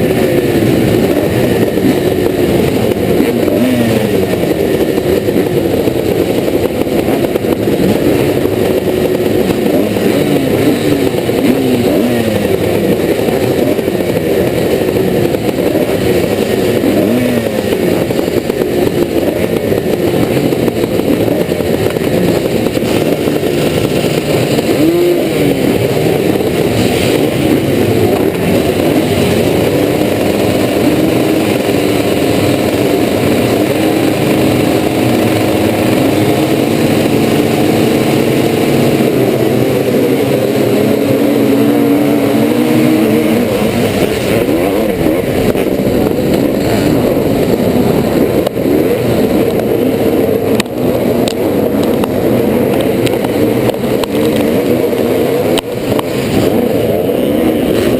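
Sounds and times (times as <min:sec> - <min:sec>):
motocross motorcycles revving: 0:00.0 - 0:57.9.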